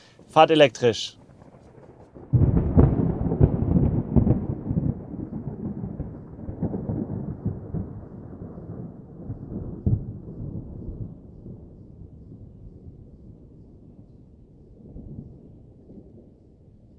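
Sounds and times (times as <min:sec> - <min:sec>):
deep thunder-like rumble: 0:00.0 - 0:16.9.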